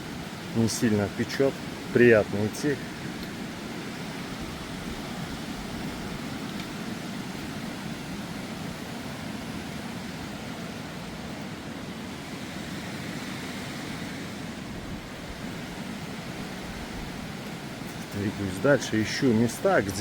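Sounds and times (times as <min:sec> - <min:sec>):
mountain river rushing: 0:00.0 - 0:20.0.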